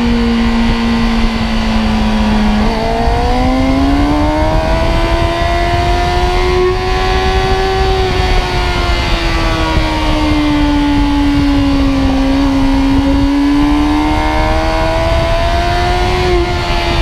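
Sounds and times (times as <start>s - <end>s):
low wind rumble: 0.0s - 17.0s
motorcycle engine accelerating: 0.0s - 17.0s.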